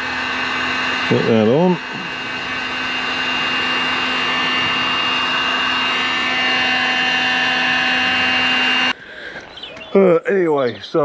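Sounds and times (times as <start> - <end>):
heat gun fan rushing and whining: 0.0 - 9.0.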